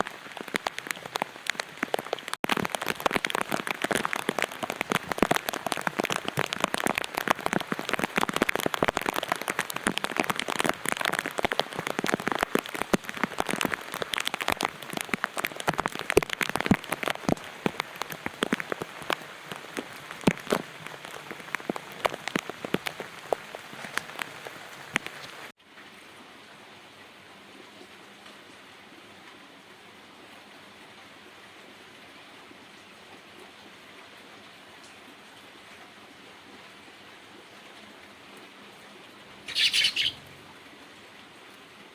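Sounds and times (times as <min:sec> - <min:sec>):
heavy rain pattering: 0:00.0 - 0:27.2, 0:27.8 - 0:41.9.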